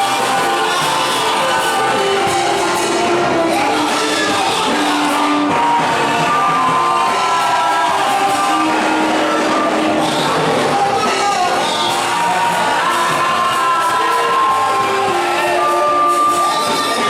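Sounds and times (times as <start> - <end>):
crowd shouting: 0.0 - 17.0
many voices singing worship music: 0.0 - 17.0.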